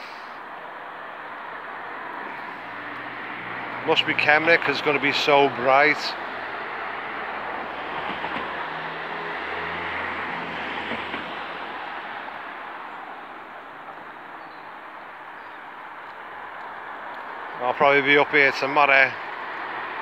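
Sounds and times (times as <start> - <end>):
vehicle passing with rushing noise: 0.8 - 20.0.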